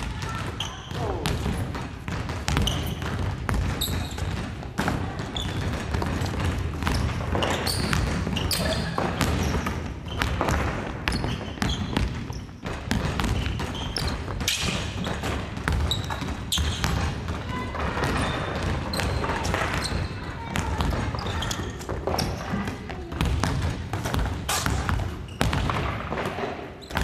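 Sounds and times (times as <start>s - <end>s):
basketballs bouncing on wooden floor: 0.0s - 27.0s.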